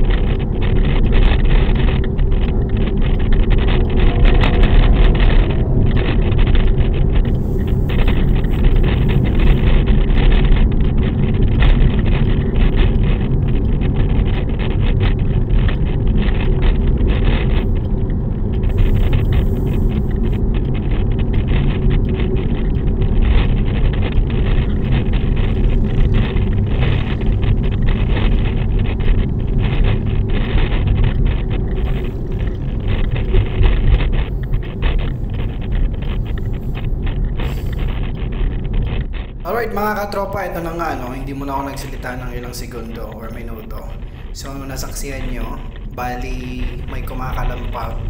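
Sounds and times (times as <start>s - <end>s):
car road and engine drone: 0.0s - 48.0s.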